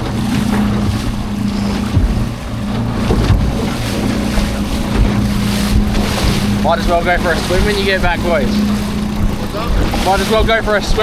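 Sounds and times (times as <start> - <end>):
sharp thumps: 0.0 - 10.7
outboard motor running: 0.0 - 11.0
wind buffeting microphone: 0.0 - 11.0.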